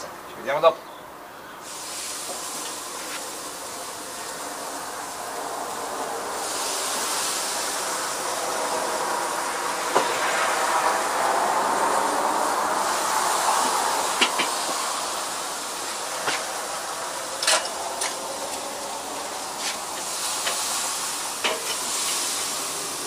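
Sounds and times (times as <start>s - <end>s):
meat sizzling on a grill: 1.6s - 23.0s.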